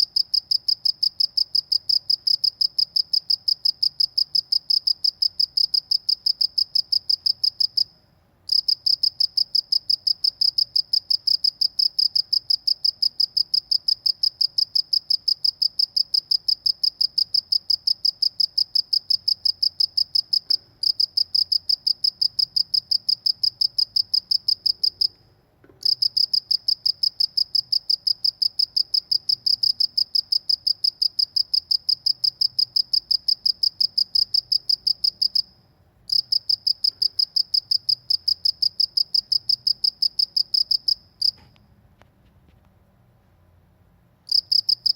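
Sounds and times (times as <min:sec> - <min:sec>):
cricket chirping: 0:00.0 - 0:41.5, 0:44.3 - 0:44.9.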